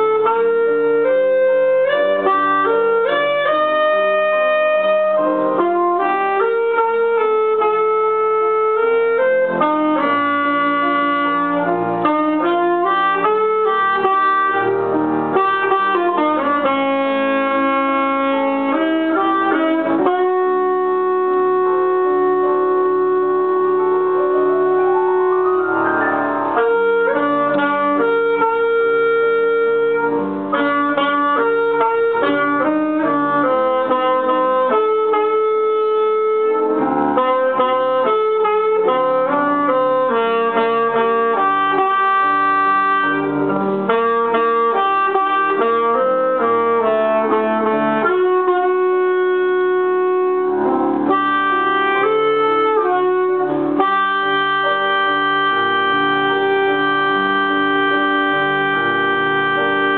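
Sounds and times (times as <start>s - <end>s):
grand piano accompaniment: 0.0s - 59.9s
saxophone melody: 0.0s - 59.9s.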